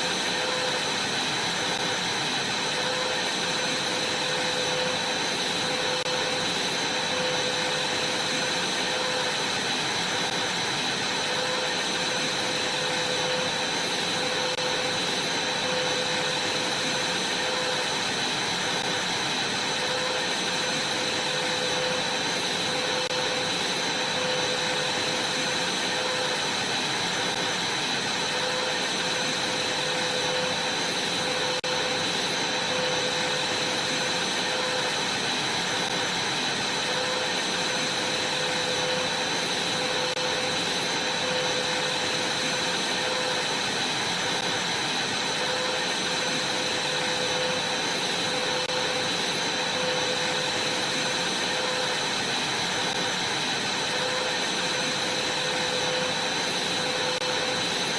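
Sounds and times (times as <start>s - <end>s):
vacuum cleaner running: 0.0s - 57.9s.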